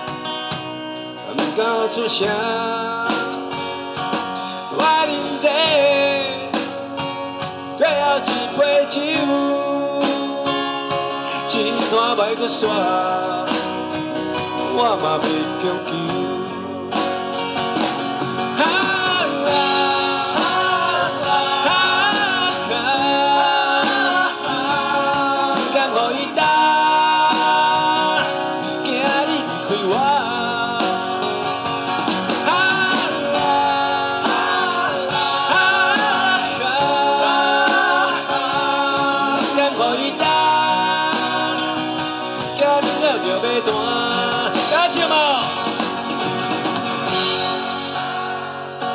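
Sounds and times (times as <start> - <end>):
acoustic guitars playing: 0.0 - 48.9
man singing: 1.1 - 45.9.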